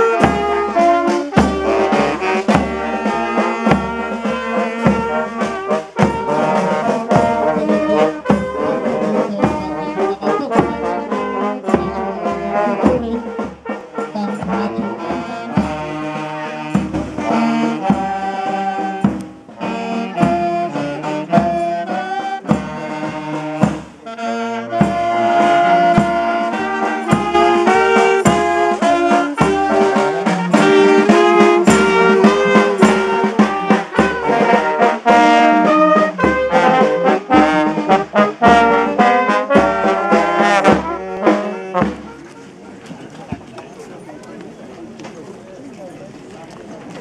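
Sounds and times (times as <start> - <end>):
drum beat: 0.0 - 44.3
wind band playing: 0.0 - 47.0.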